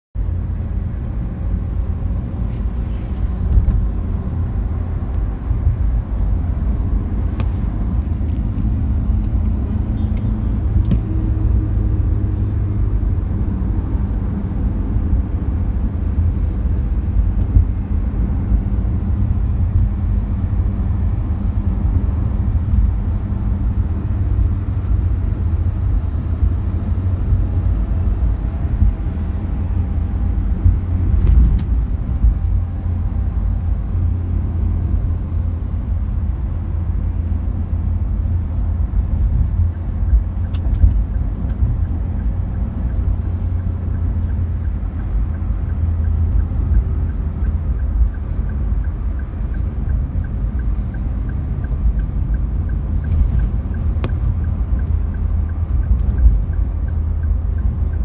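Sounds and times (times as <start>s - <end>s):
car engine rumble: 0.2s - 58.0s
tyres on road: 0.2s - 58.0s.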